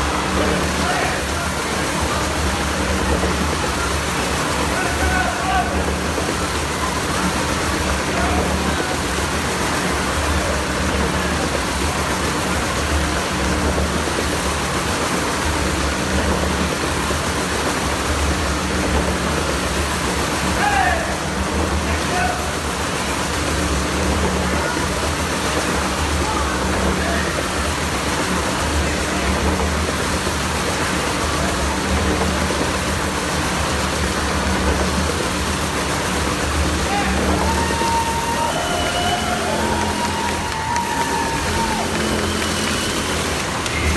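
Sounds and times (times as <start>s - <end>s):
engine droning with low rumble: 0.0s - 43.9s.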